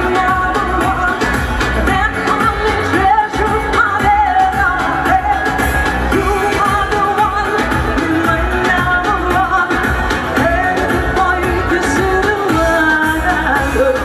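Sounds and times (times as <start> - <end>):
loud band music: 0.0 - 14.0
woman singing pop song: 0.0 - 14.0.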